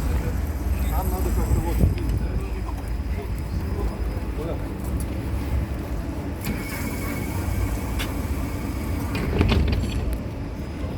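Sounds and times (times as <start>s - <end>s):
tram hum: 0.0s - 10.9s.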